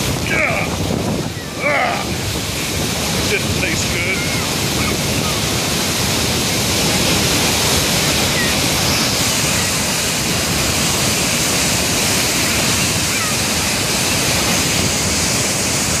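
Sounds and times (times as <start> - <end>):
loud rush of churning water: 0.0 - 16.0.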